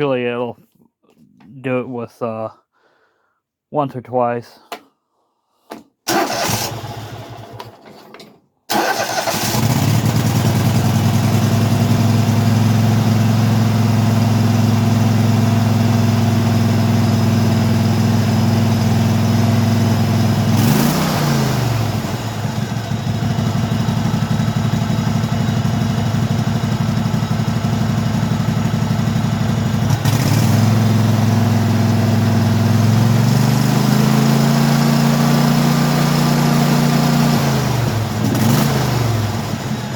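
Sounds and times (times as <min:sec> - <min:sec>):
riding mower engine running: 0:06.1 - 0:07.8, 0:08.7 - 0:39.9.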